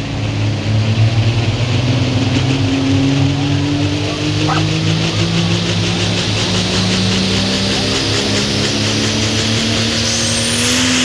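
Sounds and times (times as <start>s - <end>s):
tractor diesel engine running hard: 0.0s - 11.0s.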